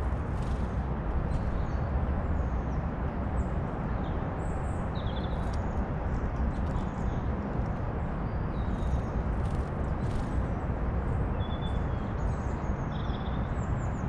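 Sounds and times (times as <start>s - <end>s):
steady low rumble: 0.0s - 12.3s
songbirds chirping: 0.0s - 14.0s.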